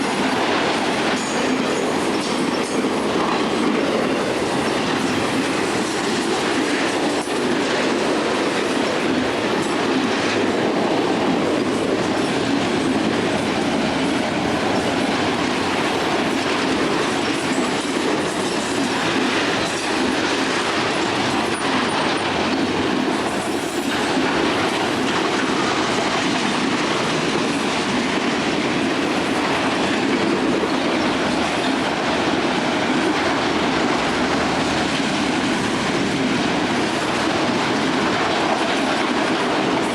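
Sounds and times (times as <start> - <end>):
railroad cars rumbling past: 0.0 - 39.9
wheels clicking over rail joints: 0.0 - 39.9.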